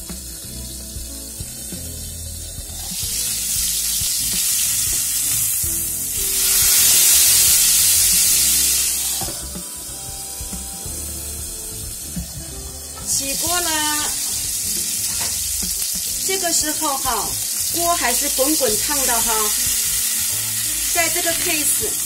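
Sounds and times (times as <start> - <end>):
steak sizzling in a pan: 0.0 - 22.0.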